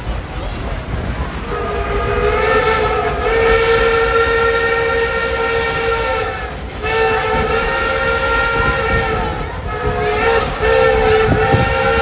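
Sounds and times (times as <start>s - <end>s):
train rumbling: 0.0s - 12.0s
steam locomotive whistle: 1.5s - 12.0s.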